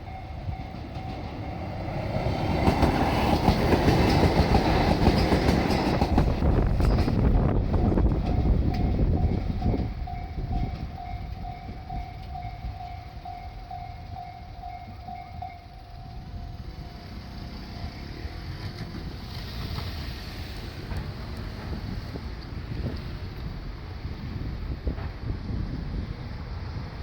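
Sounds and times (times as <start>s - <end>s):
diesel train rumbling past: 0.0s - 27.0s.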